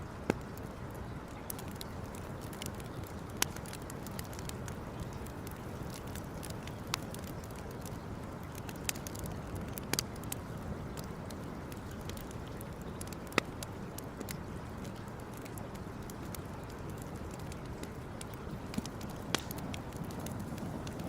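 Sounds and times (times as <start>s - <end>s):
wood campfire crackling: 0.0s - 21.0s.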